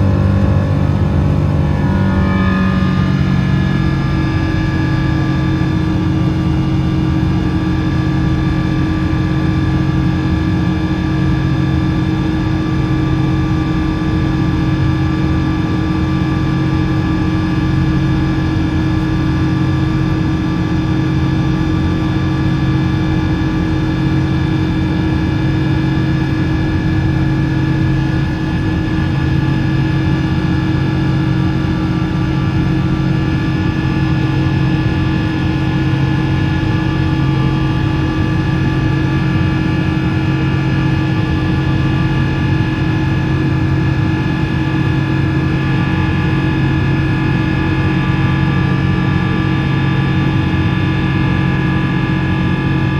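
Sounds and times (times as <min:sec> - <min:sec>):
jet engine running steadily: 0:00.0 - 0:52.9.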